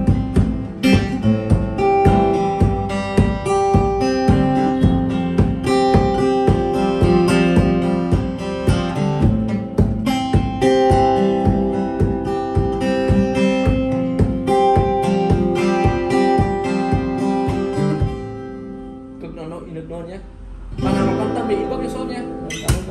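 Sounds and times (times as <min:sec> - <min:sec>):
fingerpicked acoustic guitar: 0:00.0 - 0:19.7, 0:20.4 - 0:22.9.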